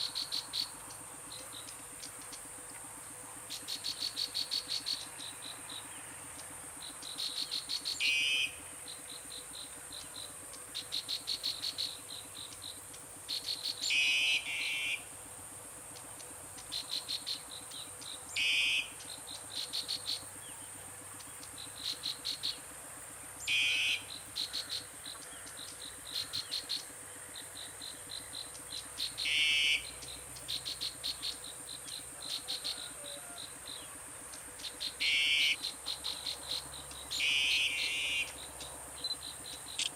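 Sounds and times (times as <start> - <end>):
harsh insect call: 0.0 - 39.9
insects chirping in pulsed trills: 0.0 - 39.9.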